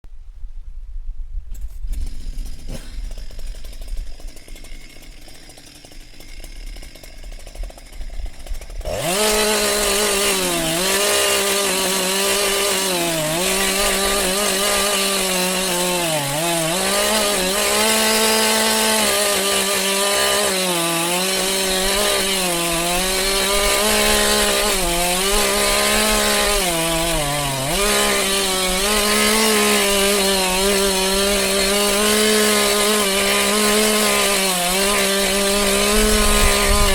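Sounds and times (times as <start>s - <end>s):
chainsaw cutting wood: 1.5s - 36.9s.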